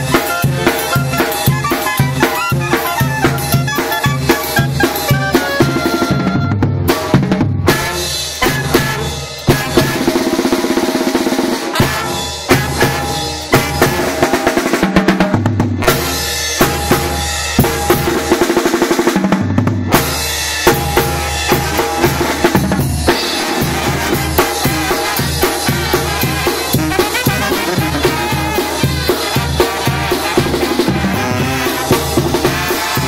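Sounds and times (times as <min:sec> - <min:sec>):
brass band playing live: 0:00.0 - 0:33.0
drums and cymbals beating: 0:00.0 - 0:33.0.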